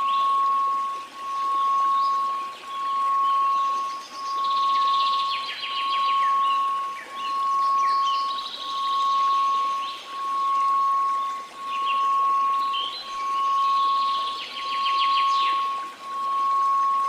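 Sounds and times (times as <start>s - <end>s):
birds chirping and trilling: 0.0s - 17.0s
pulsing pure tone: 0.0s - 17.0s
soft noise hiss: 0.0s - 17.0s.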